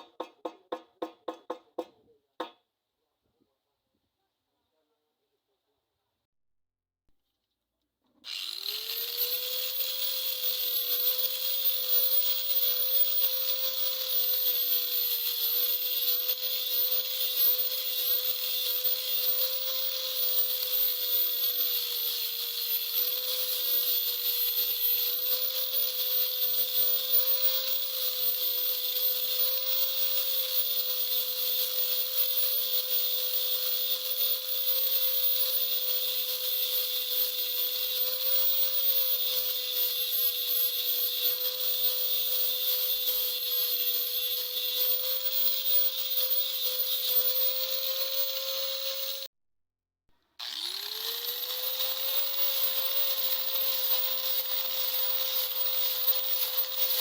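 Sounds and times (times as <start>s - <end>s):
power tool whining: 8.3s - 49.3s, 50.4s - 57.0s.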